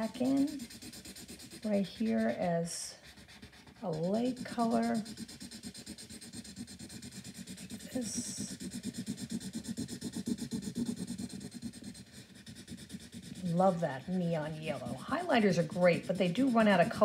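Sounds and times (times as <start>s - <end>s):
highlighter scratching on paper: 0.0s - 17.0s.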